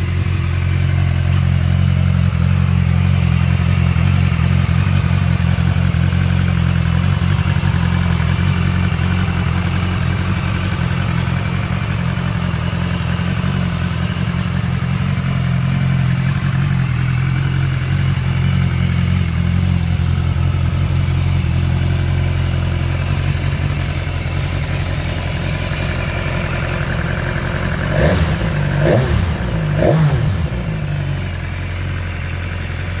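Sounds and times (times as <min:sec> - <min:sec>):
motorcycle engine idling and revving: 0:00.0 - 0:33.0.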